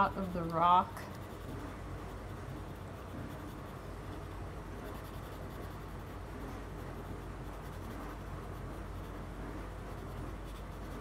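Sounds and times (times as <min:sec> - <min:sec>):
pencil scratching on paper: 0:00.0 - 0:11.0
steady low hum: 0:00.0 - 0:11.0.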